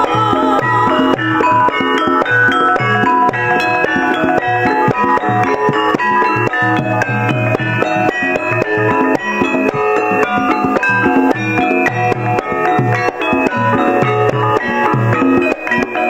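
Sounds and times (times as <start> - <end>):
hand drum strokes: 0.0 - 16.0
metallophones ringing: 0.0 - 16.0.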